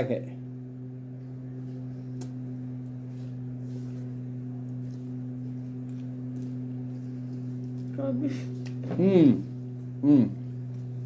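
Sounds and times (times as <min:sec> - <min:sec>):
low hum with overtones: 0:00.0 - 0:11.0.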